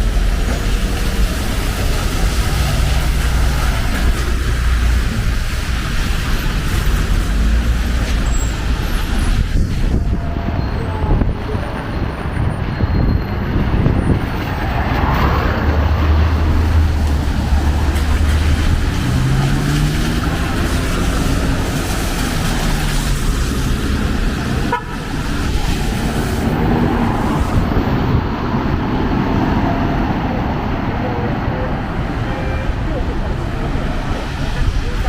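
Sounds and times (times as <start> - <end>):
cars passing on wet road: 0.0 - 35.0.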